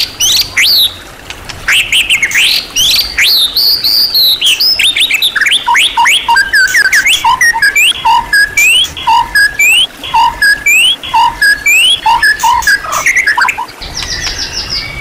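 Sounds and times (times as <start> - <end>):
songbird whistling song: 0.2 - 1.0, 1.7 - 15.0.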